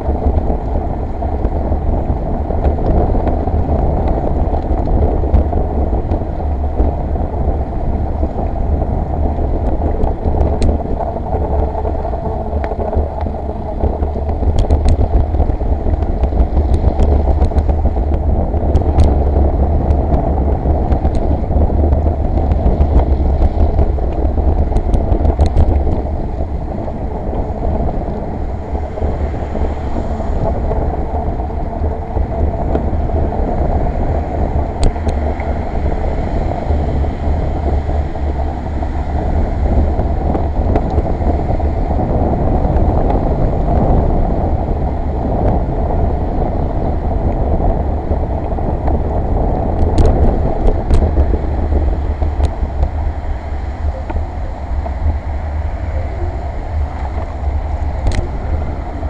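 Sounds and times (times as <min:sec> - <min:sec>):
low wind: 0:00.0 - 0:59.0
rolling rumble on wet path: 0:00.0 - 0:59.0.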